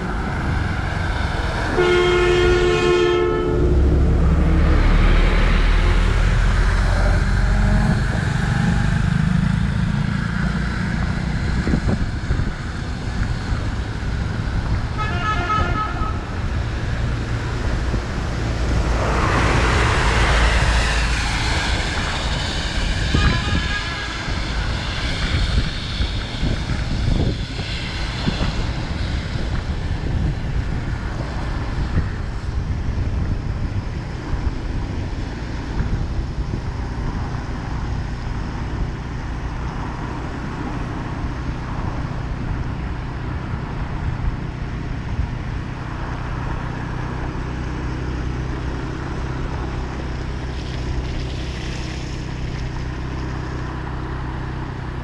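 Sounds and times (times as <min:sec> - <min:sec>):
road noise rushing: 0:00.0 - 0:55.0
vehicle engine hum: 0:00.0 - 0:55.0.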